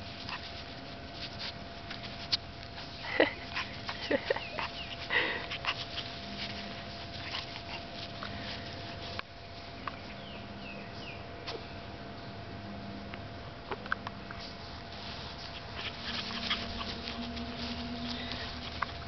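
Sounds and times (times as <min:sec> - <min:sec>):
puppies sniffing and snuffling: 0:00.0 - 0:11.7, 0:13.6 - 0:19.0
rustling in grass: 0:00.0 - 0:11.8, 0:14.2 - 0:19.0.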